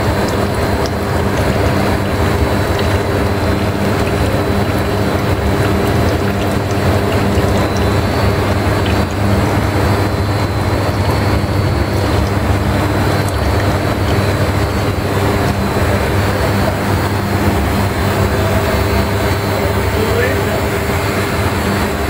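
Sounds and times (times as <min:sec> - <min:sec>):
machinery low hum: 0:00.0 - 0:22.0.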